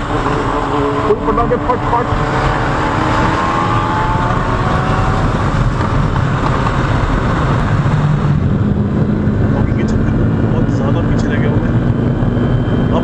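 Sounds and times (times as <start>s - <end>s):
motorcycle engine at speed: 0.0s - 13.0s
wind rush over microphone: 0.0s - 13.0s.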